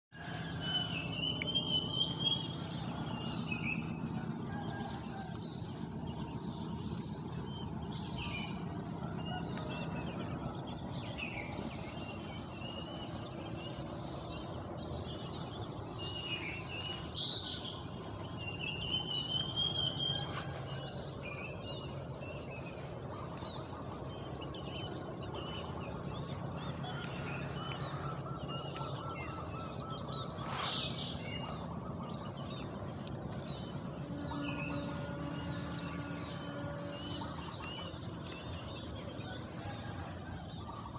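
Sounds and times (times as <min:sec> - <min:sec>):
birds singing and chirping: 0:00.2 - 0:40.9.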